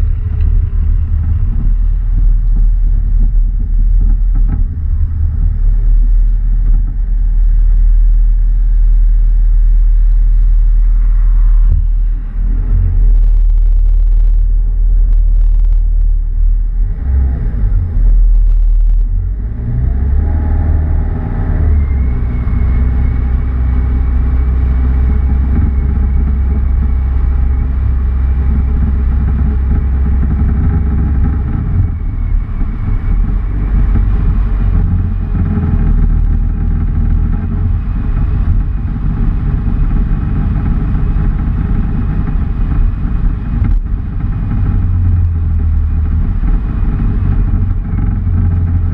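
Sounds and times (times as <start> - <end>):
vehicle engine rumbling and revving: 0.0 - 48.9.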